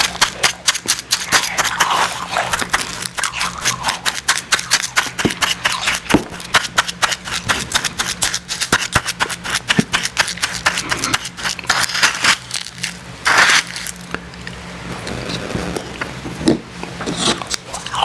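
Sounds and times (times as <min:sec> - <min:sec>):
chewing and crunching ice slush: 0:00.0 - 0:14.6, 0:17.0 - 0:18.0.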